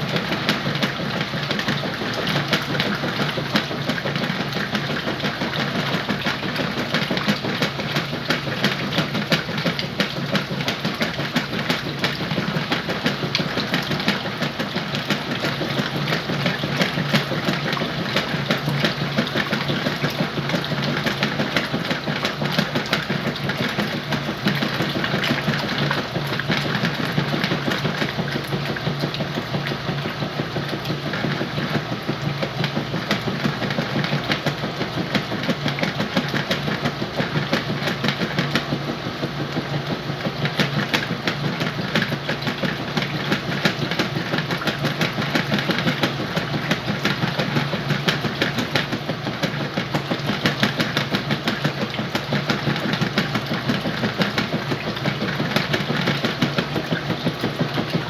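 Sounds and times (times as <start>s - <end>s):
fast irregular rattle: 0.0s - 58.0s
washing machine motor hum: 0.0s - 58.0s.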